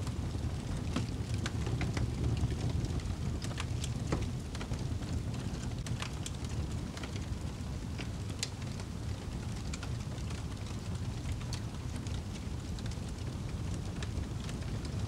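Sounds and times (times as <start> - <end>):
fire roaring low: 0.0 - 15.0
wood fire crackling: 0.0 - 15.0.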